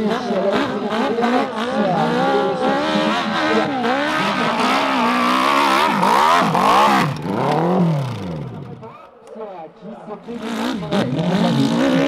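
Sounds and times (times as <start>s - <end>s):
motorcycle engine revving: 0.0s - 9.2s, 10.2s - 12.0s.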